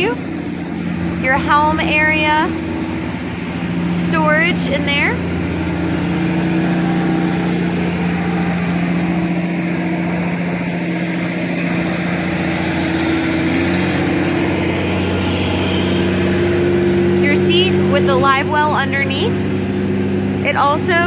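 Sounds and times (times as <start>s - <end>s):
motor drone: 0.0s - 21.0s.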